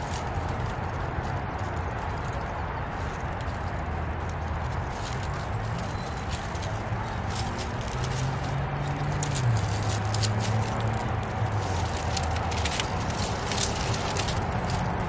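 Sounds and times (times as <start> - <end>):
leafy branches rustling: 0.0 - 15.0.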